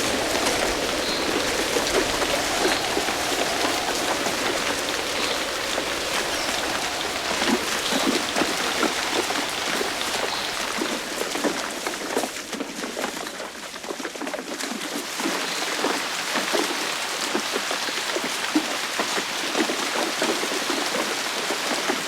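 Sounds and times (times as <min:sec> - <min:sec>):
heavy rain on a hard surface: 0:00.0 - 0:22.0.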